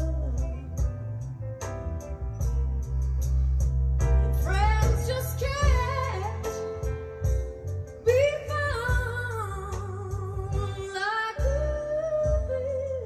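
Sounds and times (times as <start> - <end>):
deep bass line: 0.0 - 13.0.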